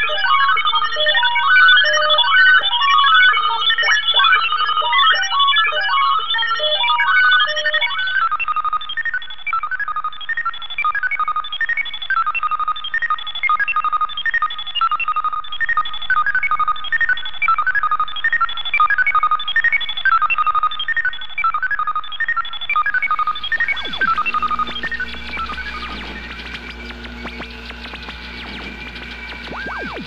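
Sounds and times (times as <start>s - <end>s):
electronic data beeps: 0.0s - 30.0s.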